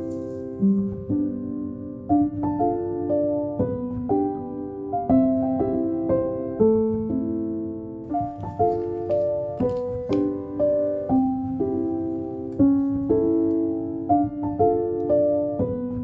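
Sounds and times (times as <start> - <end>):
soothing solo piano music: 0.0 - 16.0.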